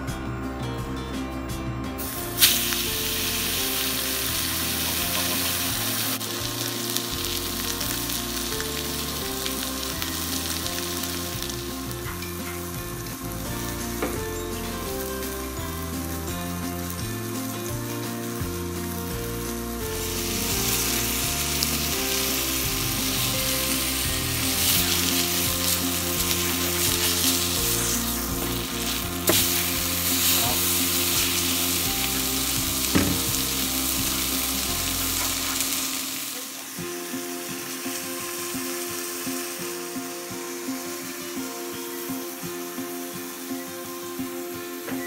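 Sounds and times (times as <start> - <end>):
background music: 0.0 - 45.0
steak sizzling in a skillet: 2.0 - 45.0.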